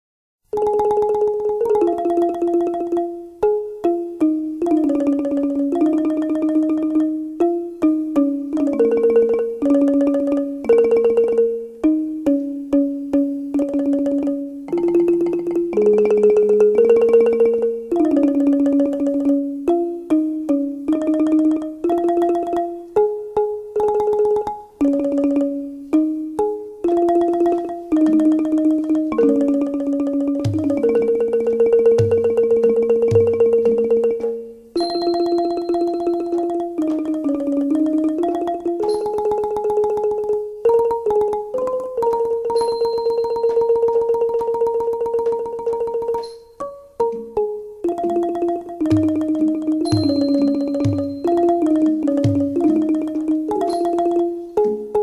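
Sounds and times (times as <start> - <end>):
xylophone melody with rapid strikes: 0.5 - 55.0.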